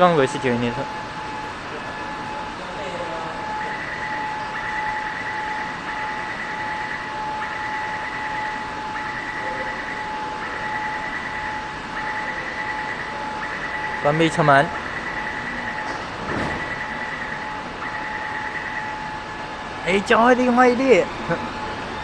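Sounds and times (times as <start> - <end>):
metro train electrical whine: 0.0 - 22.0.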